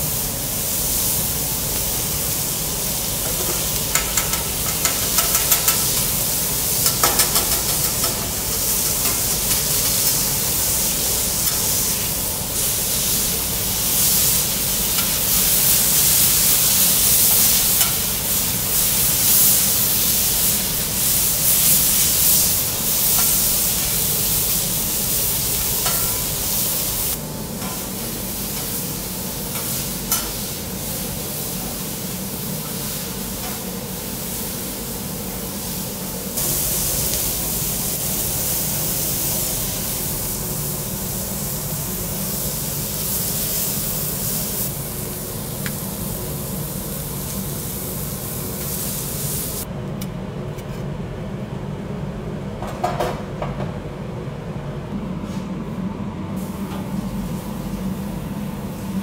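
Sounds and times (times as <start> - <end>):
food sizzling on a griddle: 0.0 - 49.7.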